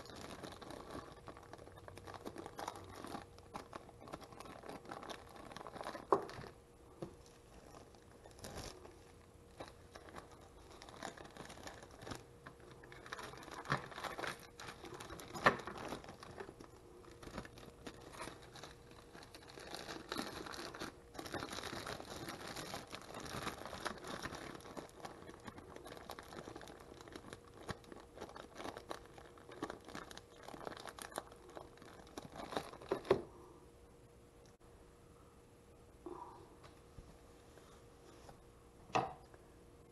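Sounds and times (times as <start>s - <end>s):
plastic bag crinkling: 0.0s - 33.3s.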